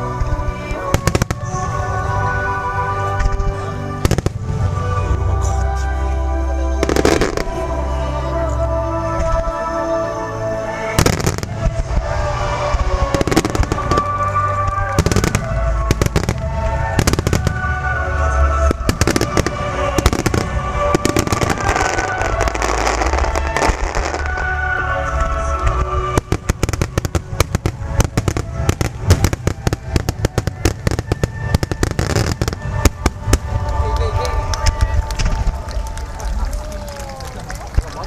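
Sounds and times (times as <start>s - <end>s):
fireworks bursting: 0.0s - 5.5s, 6.8s - 7.8s, 10.8s - 38.0s
fireworks crackling: 0.0s - 5.9s, 6.8s - 8.2s, 10.6s - 38.0s
music: 0.0s - 38.0s.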